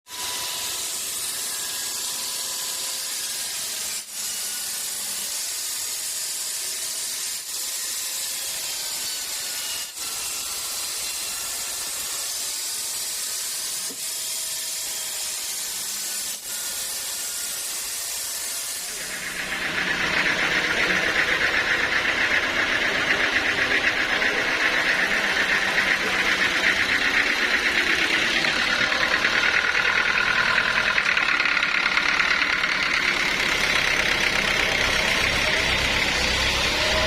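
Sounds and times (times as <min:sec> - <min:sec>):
band saw cutting wood: 0:00.1 - 0:37.0.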